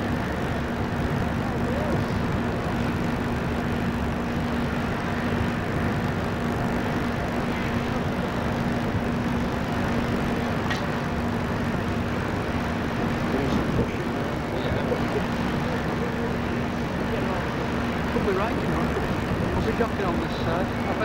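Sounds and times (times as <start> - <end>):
rushing wind: 0.0 - 21.0
steady low hum: 0.0 - 21.0.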